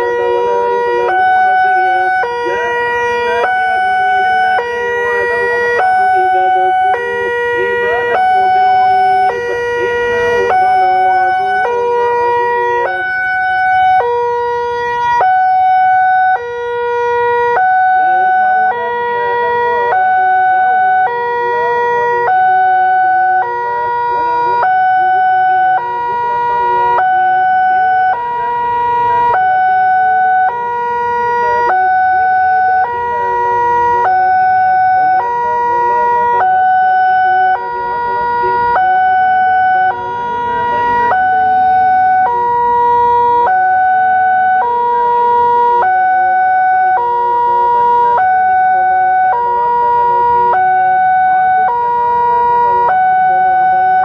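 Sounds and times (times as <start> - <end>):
level crossing two-tone alarm: 0.0 - 54.0.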